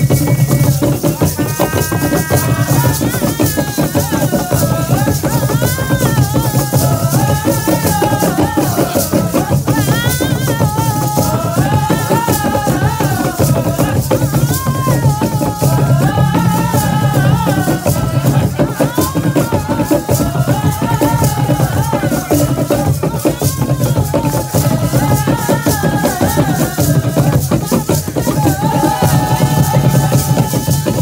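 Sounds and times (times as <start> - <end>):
drumming: 0.0 - 31.0
voices singing: 0.0 - 31.0.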